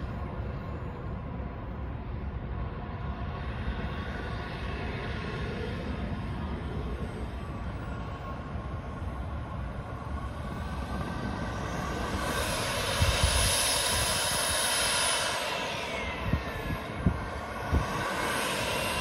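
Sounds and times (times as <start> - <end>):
jet turbine whine: 0.0 - 19.0.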